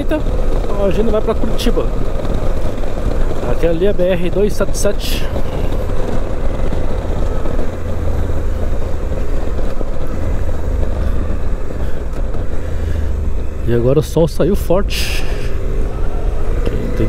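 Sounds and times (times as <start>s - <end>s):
motorcycle engine cruising: 0.0s - 17.0s
wind rush: 0.0s - 17.0s.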